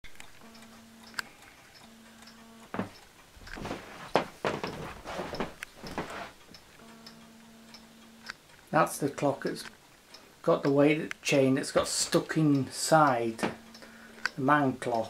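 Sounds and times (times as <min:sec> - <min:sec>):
wall clock ticking: 0:00.0 - 0:15.0
low steady hum: 0:00.1 - 0:15.0.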